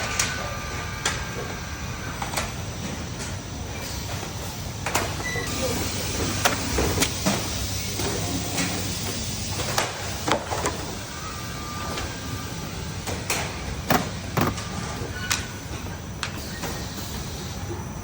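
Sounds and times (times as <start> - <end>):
machinery running hum: 0.0 - 18.0.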